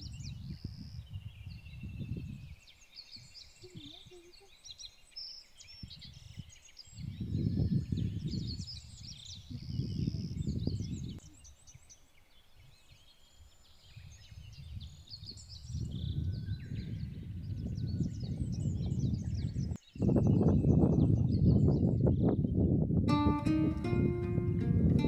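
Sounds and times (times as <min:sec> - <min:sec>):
wind buffeting microphone: 0:00.0 - 0:12.0, 0:12.6 - 0:25.0
small birds chirping: 0:00.0 - 0:25.0.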